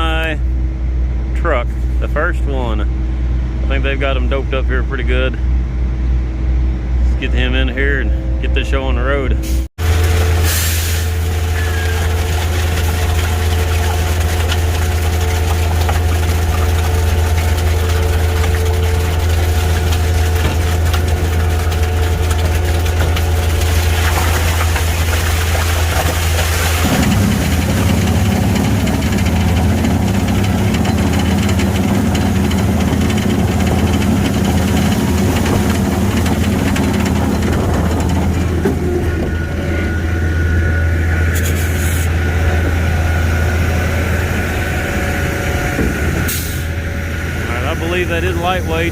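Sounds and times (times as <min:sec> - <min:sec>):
diesel truck engine humming: 0:00.0 - 0:48.9.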